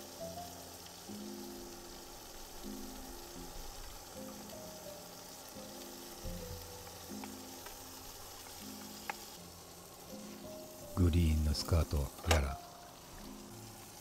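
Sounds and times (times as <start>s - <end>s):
shrimp sizzling in oil: 0.0s - 14.0s.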